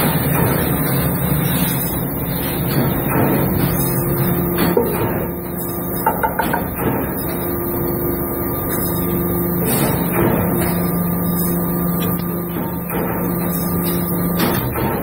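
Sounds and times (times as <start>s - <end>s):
hydraulic press hum: 0.0s - 15.0s.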